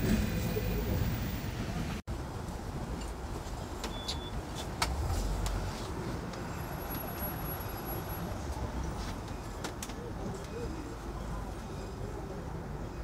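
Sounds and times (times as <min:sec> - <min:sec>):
road traffic rumbling: 0:00.0 - 0:13.0.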